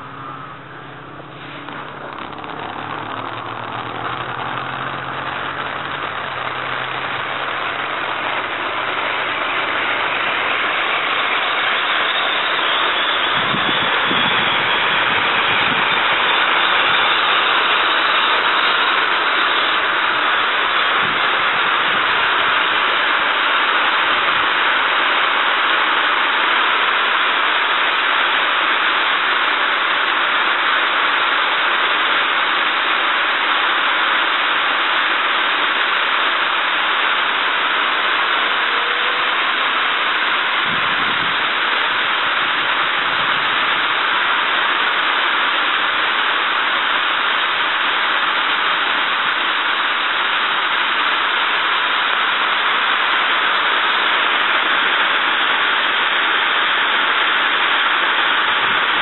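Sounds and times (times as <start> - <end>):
fountain firework hissing: 0.0 - 59.0.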